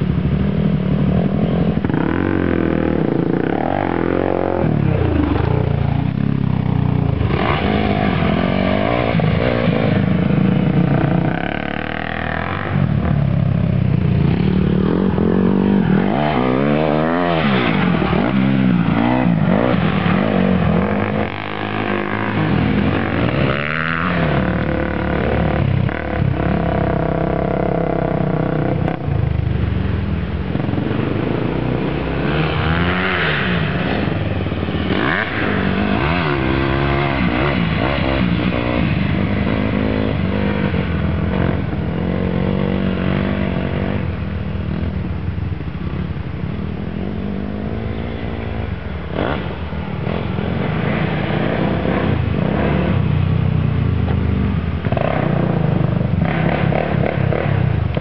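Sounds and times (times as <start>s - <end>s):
dirt bike passing by: 0.0s - 45.2s, 46.6s - 58.0s
dirt bike engines revving: 0.0s - 58.0s.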